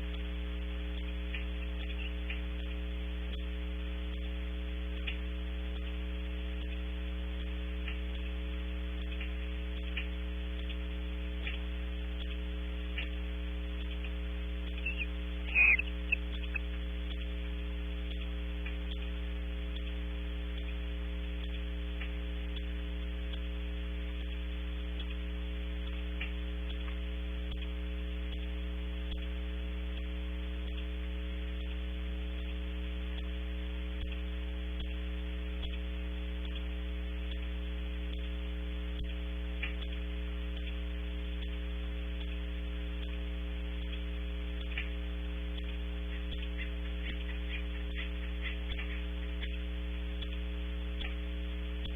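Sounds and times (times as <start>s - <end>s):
electrical mains hum: 0.0s - 51.9s
faint high ticks: 0.0s - 51.9s.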